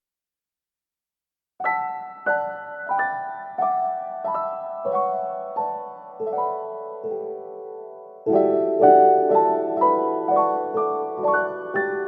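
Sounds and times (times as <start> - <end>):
slow piano melody: 1.6 - 12.0.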